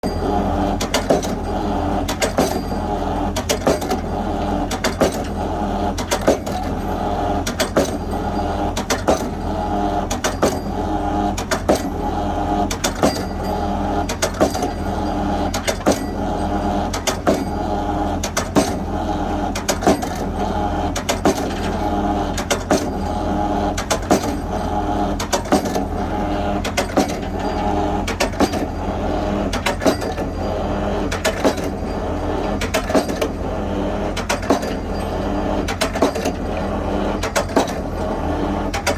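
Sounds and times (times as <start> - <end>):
excavator engine drone: 0.0 - 38.9.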